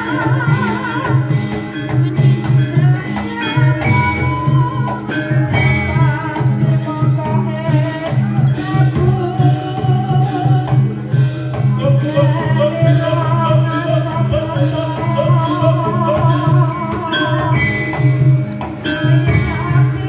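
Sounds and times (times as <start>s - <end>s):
steady repeating percussion: 0.0s - 20.0s
wavering sung melody: 0.0s - 20.0s.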